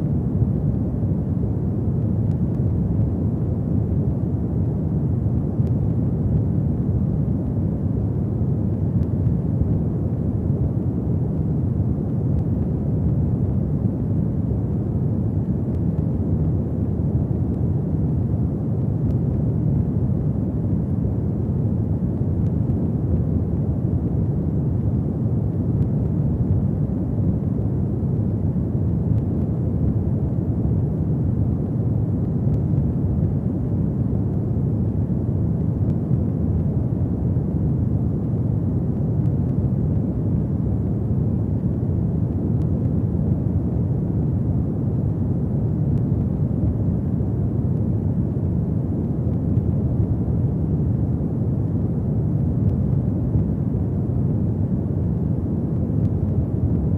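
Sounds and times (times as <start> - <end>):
fire burning with low roar: 0.0 - 56.9.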